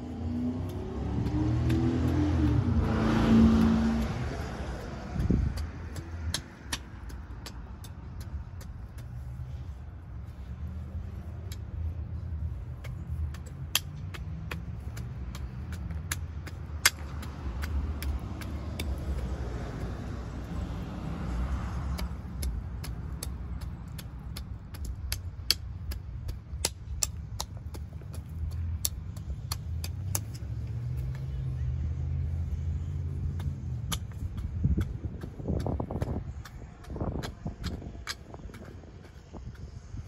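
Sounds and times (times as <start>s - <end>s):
low outdoor rumble: 0.0s - 40.0s.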